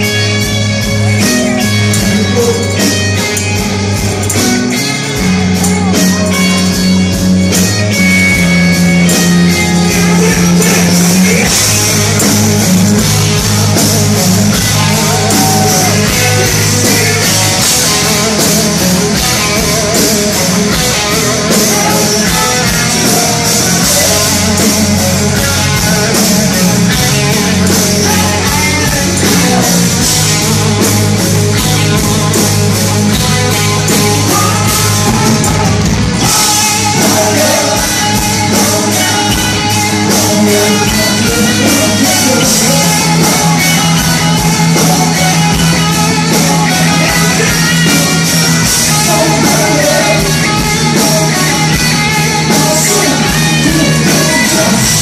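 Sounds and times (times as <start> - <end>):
person singing: 0.0 - 55.0
rock band playing: 0.0 - 55.0.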